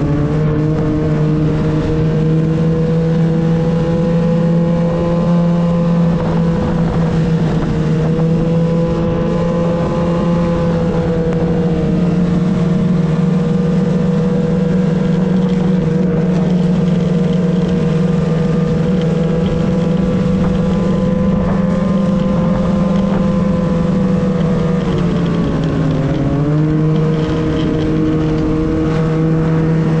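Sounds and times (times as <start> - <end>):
vehicle engine running steadily: 0.0 - 30.0.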